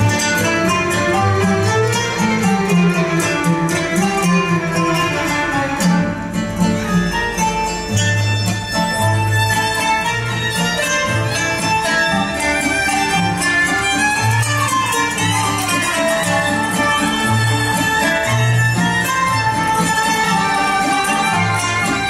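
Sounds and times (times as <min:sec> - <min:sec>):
kanun accompaniment: 0:00.0 - 0:22.0
plucked oud: 0:00.0 - 0:22.0
violin melody: 0:00.0 - 0:22.0.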